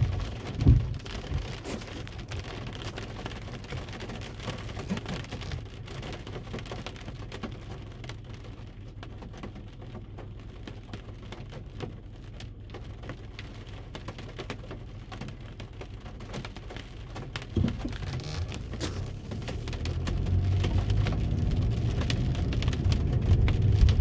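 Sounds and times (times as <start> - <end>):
rain pattering on a car: 0.0 - 24.0.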